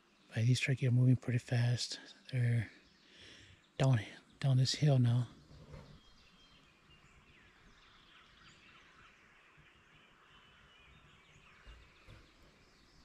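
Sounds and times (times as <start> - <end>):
faint songbird chirps: 0.0 - 13.0.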